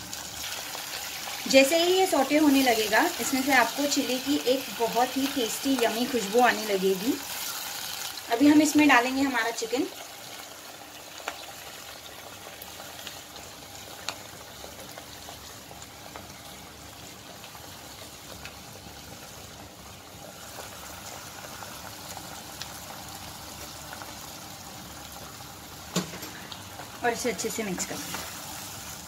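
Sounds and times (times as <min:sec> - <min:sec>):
food sizzling and bubbling in oil: 0:00.0 - 0:29.0.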